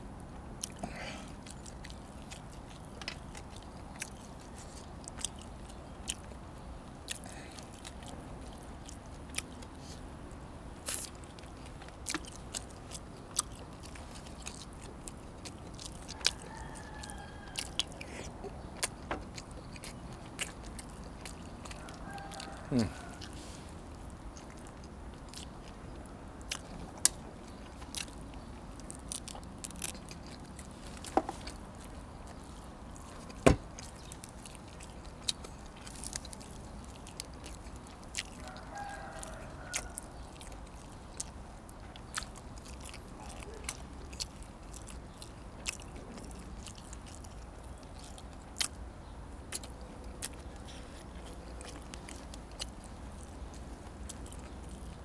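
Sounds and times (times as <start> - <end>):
person chewing and crunching: 0.1 - 55.0.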